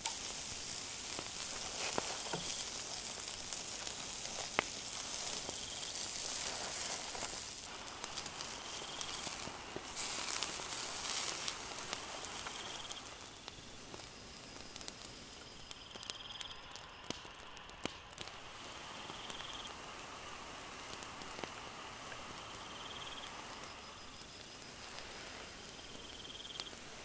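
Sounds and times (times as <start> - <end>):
burning coals crackling: 0.0 - 27.0
steak sizzling on grill: 0.0 - 27.0.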